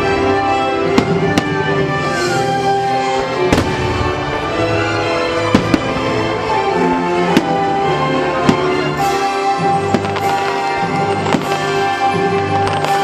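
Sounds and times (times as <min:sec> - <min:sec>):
fireworks bursting: 0:00.0 - 0:13.0
orchestral music over loudspeakers: 0:00.0 - 0:13.0.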